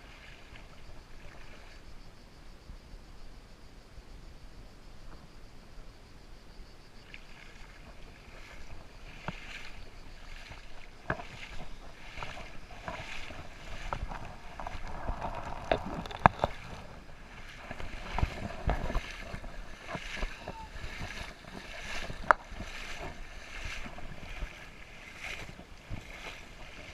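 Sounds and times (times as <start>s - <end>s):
creek water gurgling: 0.0s - 2.3s, 6.6s - 26.9s.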